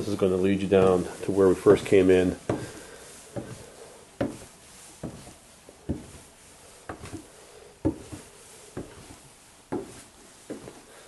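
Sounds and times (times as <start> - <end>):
footsteps going down stairs: 0.0 - 11.0.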